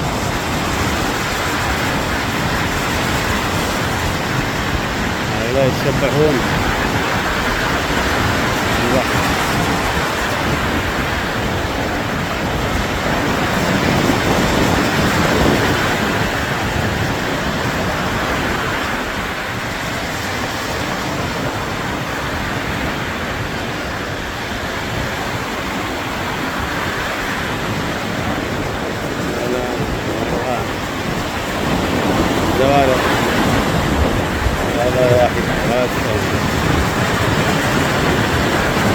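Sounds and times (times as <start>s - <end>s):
sea surf washing on shore: 0.0s - 38.9s
wind rumbling on microphone: 0.0s - 38.9s.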